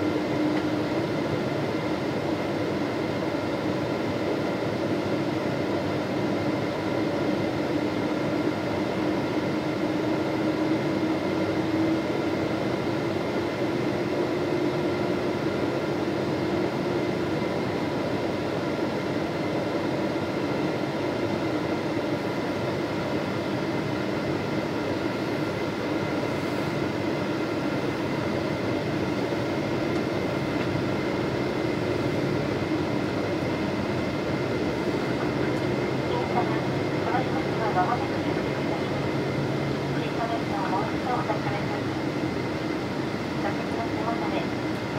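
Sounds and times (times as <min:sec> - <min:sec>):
airliner cabin engine rush: 0:00.0 - 0:44.9
low cabin hum: 0:00.0 - 0:44.9.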